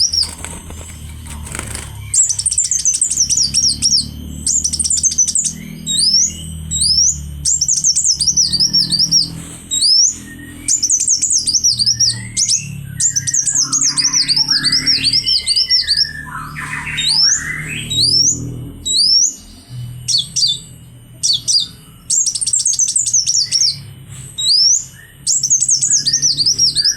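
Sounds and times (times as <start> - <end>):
bird singing high chirps and trills: 0.0 - 26.9.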